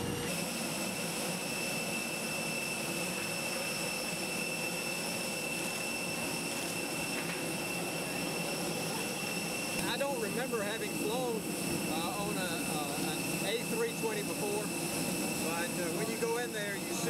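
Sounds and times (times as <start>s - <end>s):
jet turbine running: 0.0s - 17.0s.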